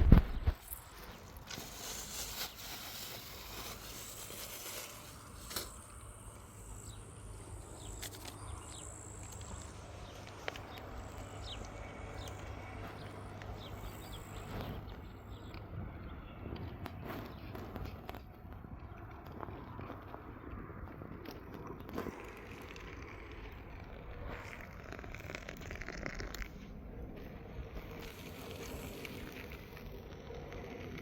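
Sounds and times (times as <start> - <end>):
steady low hum: 3.3 - 31.0.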